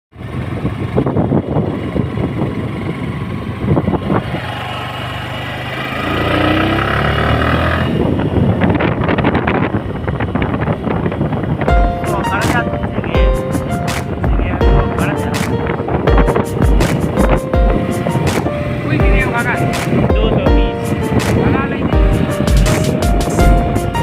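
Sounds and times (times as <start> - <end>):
motorcycle engine revving: 0.2 - 12.6, 13.5 - 24.0.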